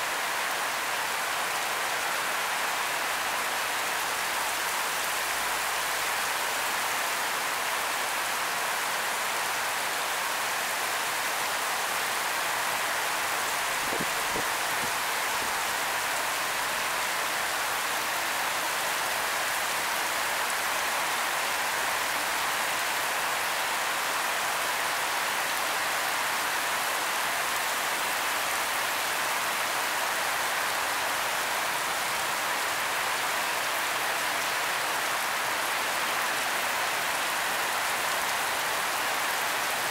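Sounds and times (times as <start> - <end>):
torrential rain on pavement: 0.0 - 39.9.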